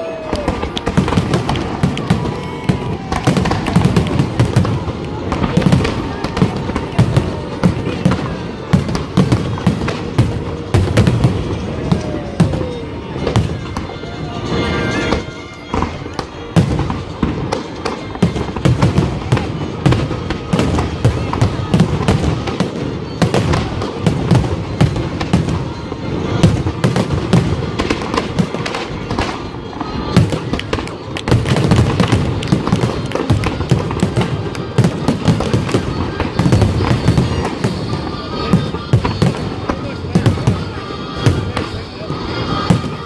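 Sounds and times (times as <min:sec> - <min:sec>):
fireworks shells bursting: 0:00.5 - 0:43.0.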